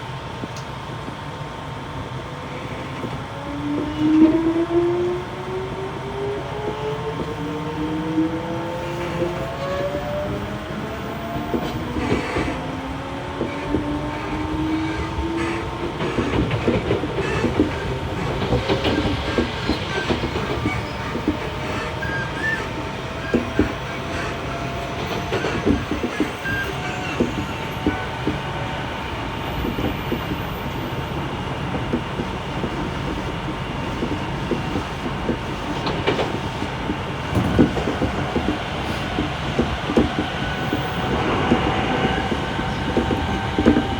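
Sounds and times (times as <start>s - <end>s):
train wheel rumble: 0.0s - 43.9s
traction motors whining: 2.3s - 43.9s
wheels clacking over rail joints: 8.5s - 43.9s.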